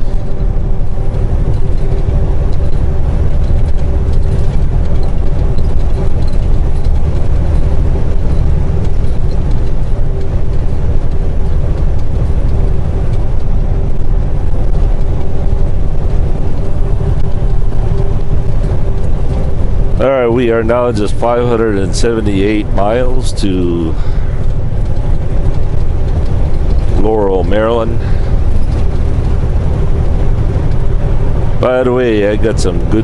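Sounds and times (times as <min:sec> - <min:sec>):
steady hum: 0:00.0 - 0:33.0
truck diesel drone and road rumble: 0:00.0 - 0:33.0.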